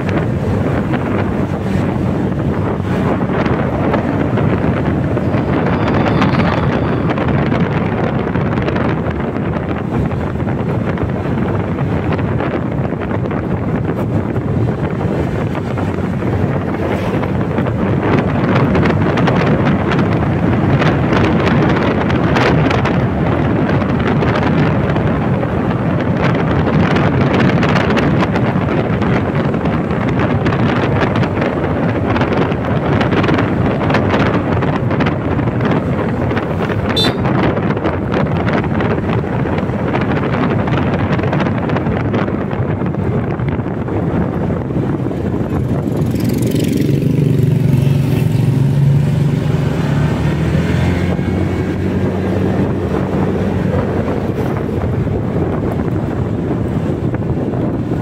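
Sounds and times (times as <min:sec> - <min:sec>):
scooter engine and tyre noise: 0:00.0 - 0:58.0
wind buffeting microphone: 0:00.0 - 0:58.0.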